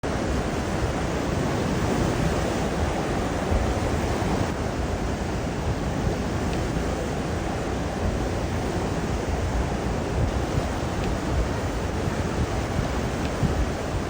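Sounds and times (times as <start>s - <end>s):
sea surf washing in: 0.0s - 14.0s
wind on microphone: 0.0s - 14.0s.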